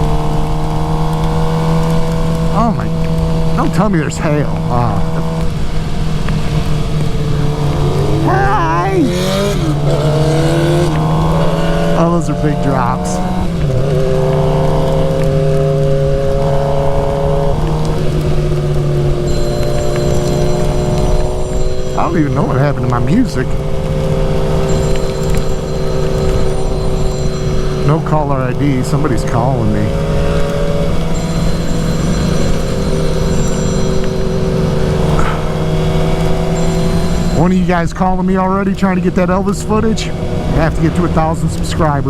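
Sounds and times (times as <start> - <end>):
motorcycle engine cruising: 0.0 - 42.0
wind and road noise: 0.0 - 42.0.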